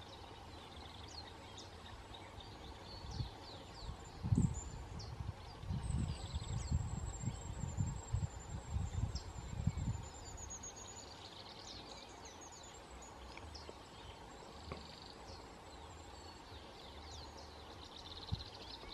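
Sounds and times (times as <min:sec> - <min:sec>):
birds chirping and trilling: 0:00.0 - 0:18.9
low steady background noise: 0:00.0 - 0:18.9.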